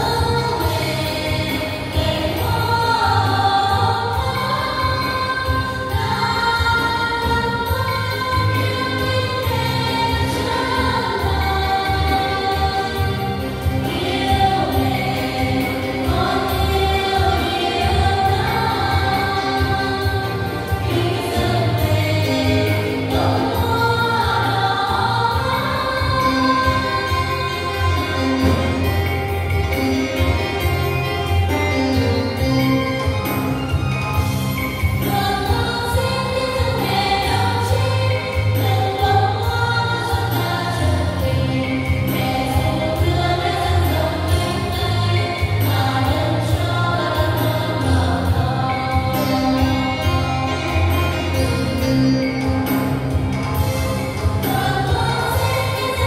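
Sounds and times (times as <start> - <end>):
choir singing a hymn: 0.0 - 29.5, 35.1 - 51.9, 54.4 - 56.0
instrumental accompaniment with bass: 0.0 - 56.0.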